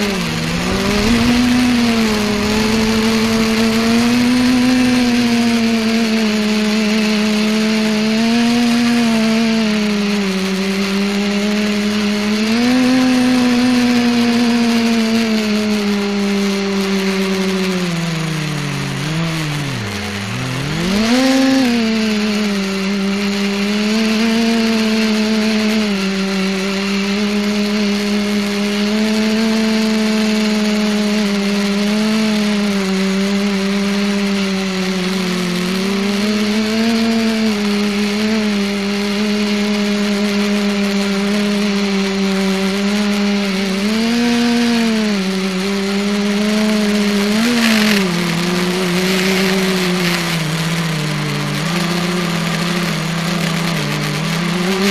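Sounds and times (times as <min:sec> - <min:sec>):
multicopter motors droning whine: 0:00.0 - 0:54.9.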